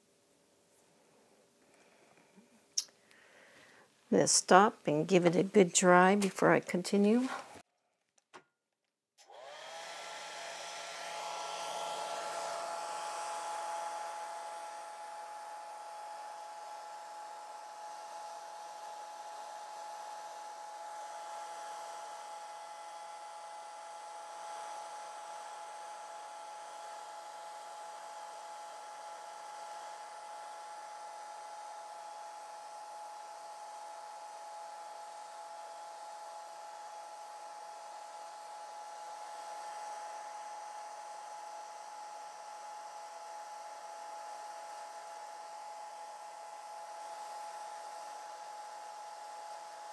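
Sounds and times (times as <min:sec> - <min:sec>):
hair dryer running: 0:09.2 - 0:49.9.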